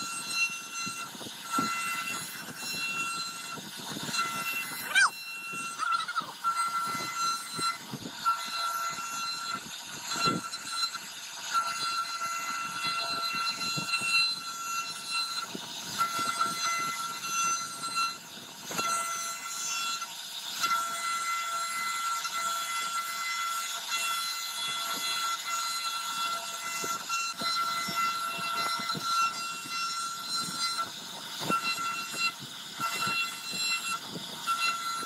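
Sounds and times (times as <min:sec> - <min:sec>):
router spindle whine: 0:00.0 - 0:35.0.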